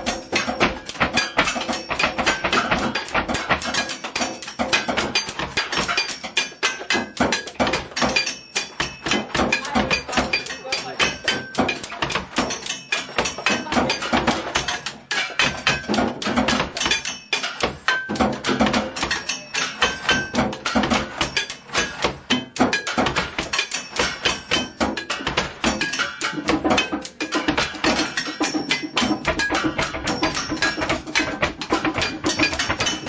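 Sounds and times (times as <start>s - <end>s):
drumming on kitchen objects: 0.0s - 33.0s.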